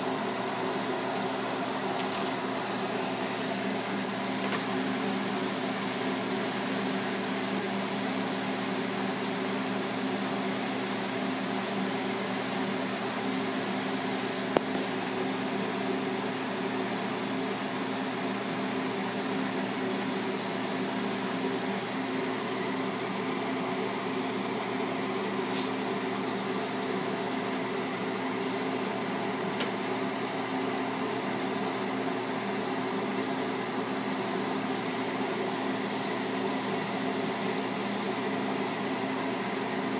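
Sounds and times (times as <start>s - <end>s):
torch burning with hiss: 0.0s - 32.6s
low mechanical hum: 0.0s - 39.9s.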